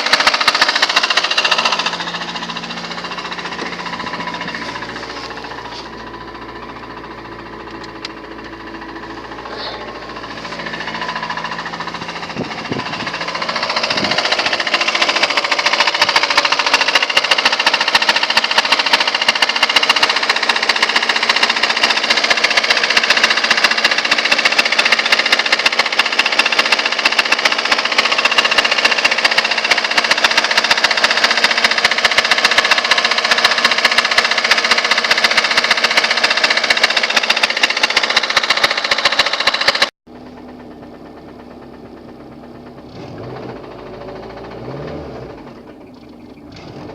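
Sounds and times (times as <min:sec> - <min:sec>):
car engine running: 0:00.0 - 0:46.9
rapid metallic engine knocking: 0:00.0 - 0:46.9.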